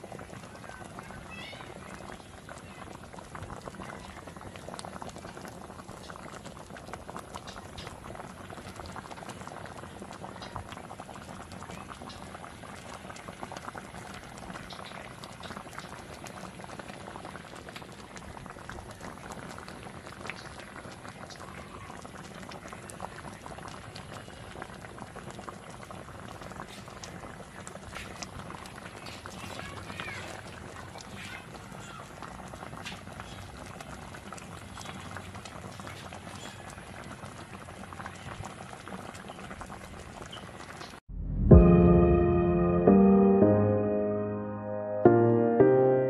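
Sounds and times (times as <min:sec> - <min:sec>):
water boiling in a pot: 0:00.0 - 0:41.1.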